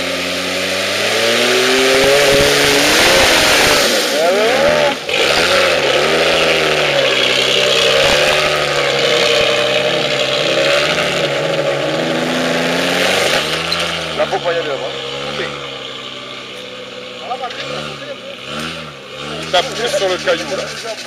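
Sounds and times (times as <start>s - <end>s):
engine revving up and down: 0.0s - 21.0s.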